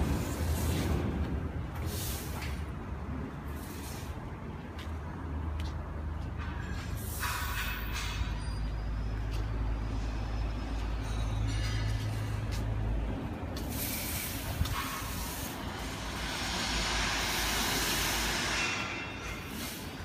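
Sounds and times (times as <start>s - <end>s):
large engine humming: 0.0s - 20.0s.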